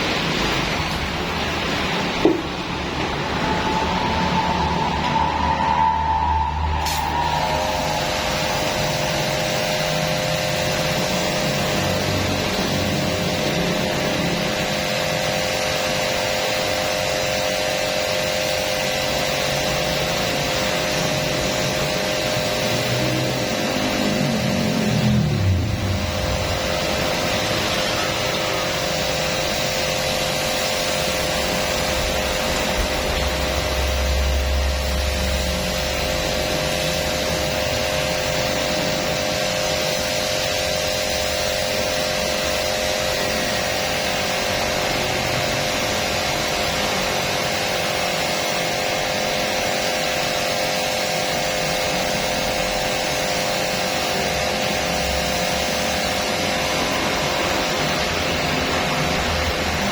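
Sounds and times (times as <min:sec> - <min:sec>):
pressure washer running: 0:00.0 - 0:59.9.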